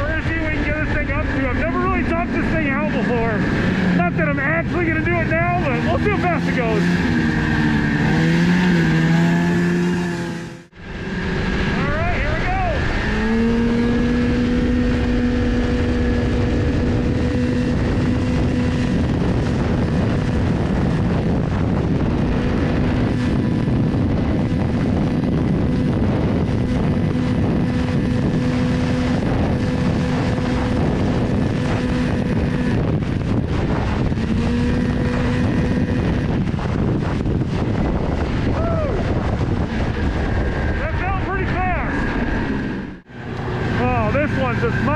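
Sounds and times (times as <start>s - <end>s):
snowmobile engine at high pitch: 0.0s - 44.9s
wind rush on microphone: 0.0s - 44.9s.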